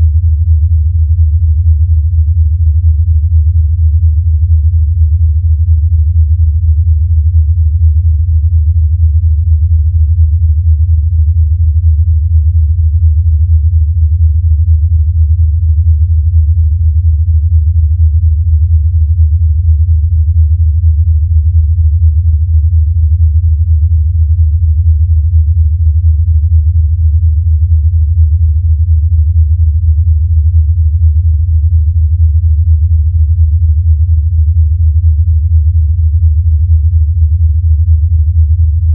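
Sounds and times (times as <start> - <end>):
deep fluttering hum: 0.0 - 38.9.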